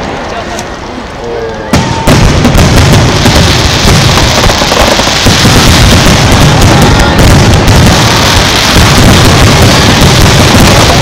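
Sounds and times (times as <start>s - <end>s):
fireworks booming and crackling: 1.6s - 11.0s.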